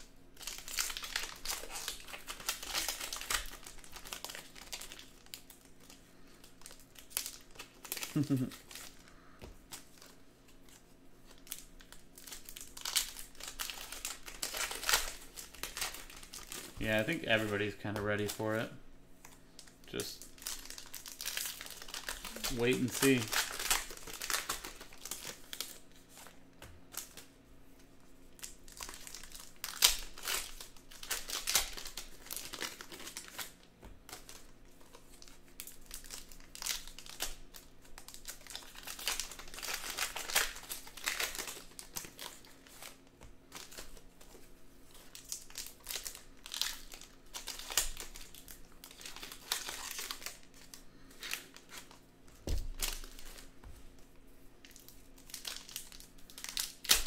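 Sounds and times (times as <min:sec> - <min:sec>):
card pack wrappers crinkling: 0:00.0 - 0:57.0.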